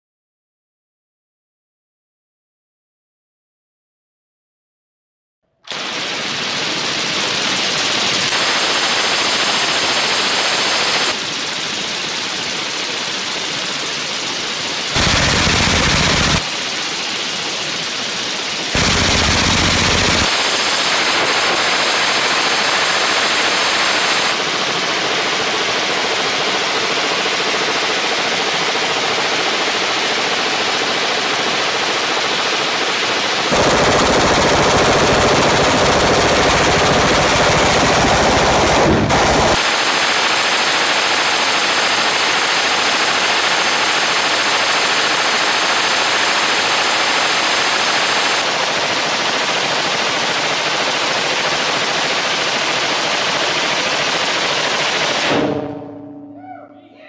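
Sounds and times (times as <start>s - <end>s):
suppressed machine gun burst: 5.7s - 14.1s, 14.8s - 17.4s, 18.6s - 55.8s.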